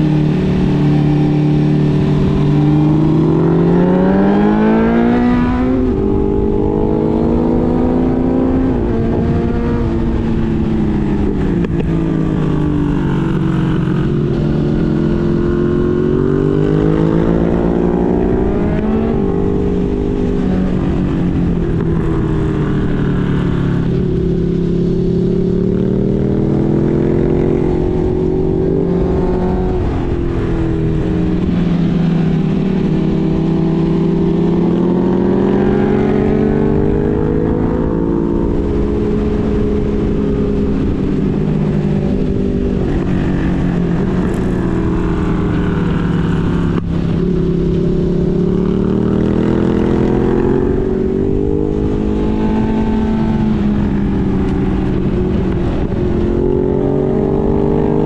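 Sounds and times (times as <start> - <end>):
motorcycle engine revving: 0.0 - 58.0
wind rumble: 0.0 - 58.0.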